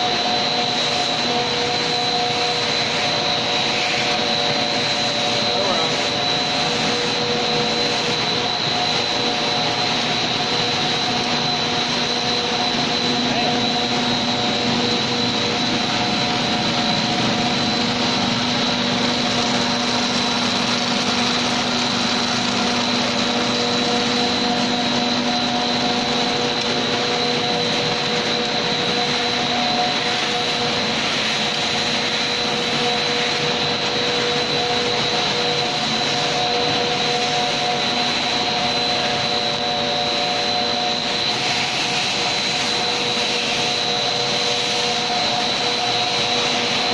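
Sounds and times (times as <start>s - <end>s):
drone of motors and fans: 0.0s - 46.9s
high-pitched machine tone: 0.0s - 46.9s.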